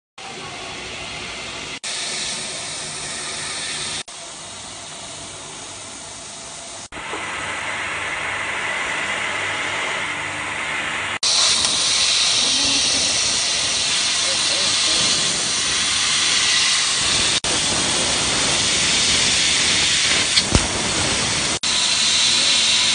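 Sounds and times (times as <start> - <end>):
laser cutter air hiss: 0.2 - 22.9.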